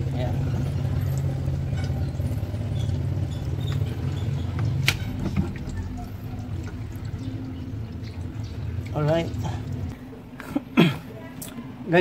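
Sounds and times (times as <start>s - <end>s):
water draining from washing machine: 0.0s - 10.0s.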